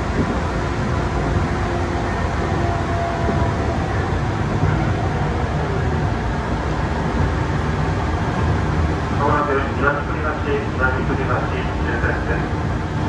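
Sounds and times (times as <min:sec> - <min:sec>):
faint train whine: 0:00.0 - 0:13.0
train wheels rumbling on rails: 0:00.0 - 0:13.0.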